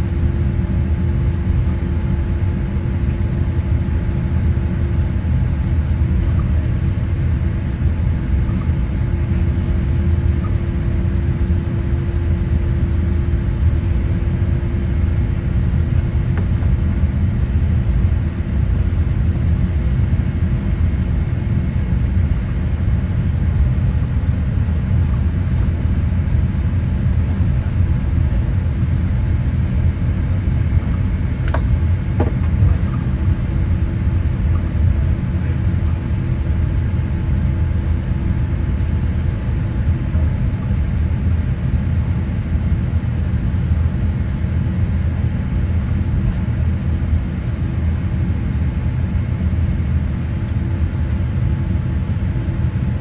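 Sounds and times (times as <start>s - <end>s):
aircraft cabin rumble: 0.0s - 53.0s.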